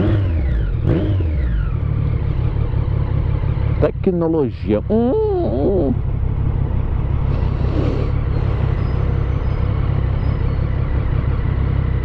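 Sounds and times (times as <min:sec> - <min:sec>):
motorcycle engine idling: 0:00.0 - 0:12.0
street traffic: 0:00.0 - 0:12.0.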